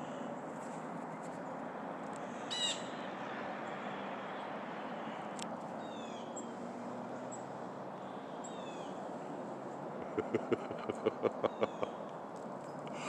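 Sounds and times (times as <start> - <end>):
songbirds chirping: 1.3 - 13.0.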